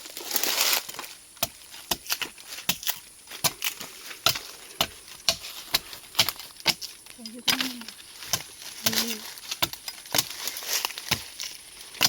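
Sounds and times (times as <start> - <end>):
blade chopping wood: 1.4 - 12.0.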